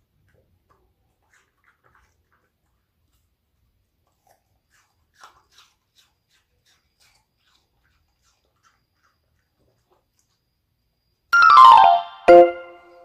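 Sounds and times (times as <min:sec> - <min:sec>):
puppy crunching apple: 0:00.0 - 0:10.4.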